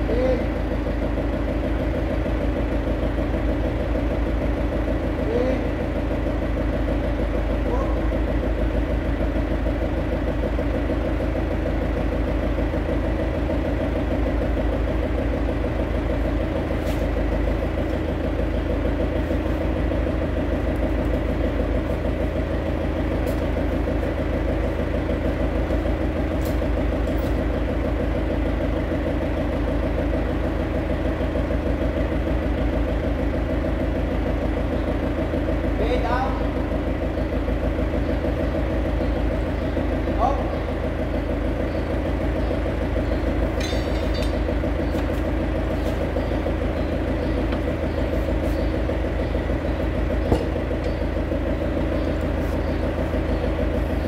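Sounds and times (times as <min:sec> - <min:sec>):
forklift engine idling: 0:00.0 - 0:54.0.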